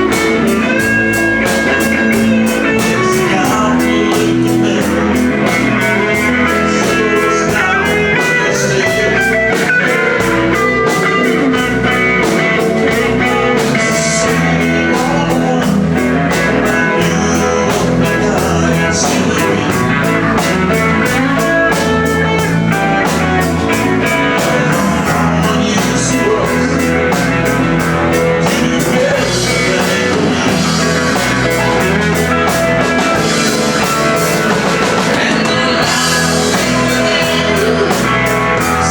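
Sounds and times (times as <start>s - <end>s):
bass line: 0.0s - 38.9s
drum kit beat: 0.0s - 38.9s
guitar: 0.0s - 38.9s.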